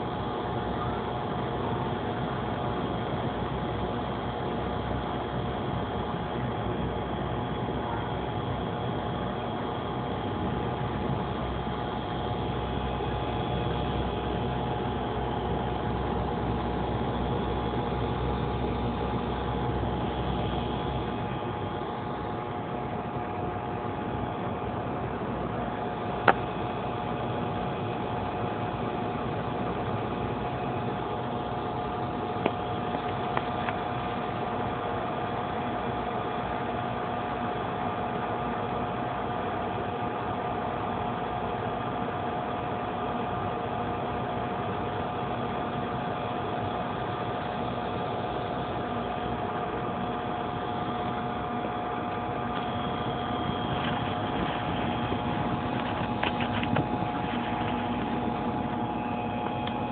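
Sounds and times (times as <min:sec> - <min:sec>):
mechanical hum with whine: 0:00.0 - 0:59.9.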